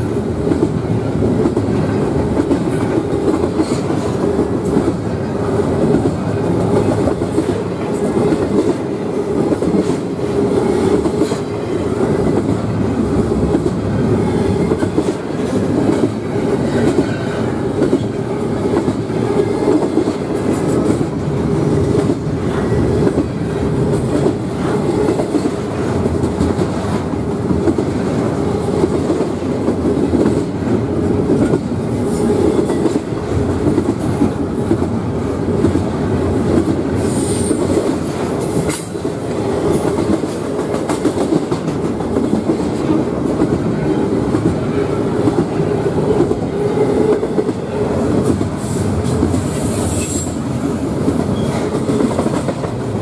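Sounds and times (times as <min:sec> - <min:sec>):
freight train wheels rumbling on rail: 0:00.0 - 0:53.0
train clacks: 0:00.0 - 0:53.0.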